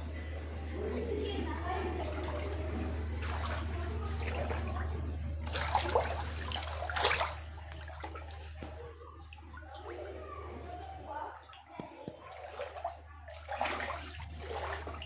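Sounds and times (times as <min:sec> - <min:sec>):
water sloshing and splashing: 0:00.0 - 0:15.0
feet wading through water: 0:01.6 - 0:15.0.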